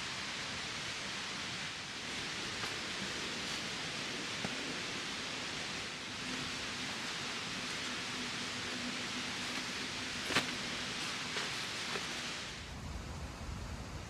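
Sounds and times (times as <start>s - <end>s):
rushing outdoor ambience: 0.0s - 14.0s.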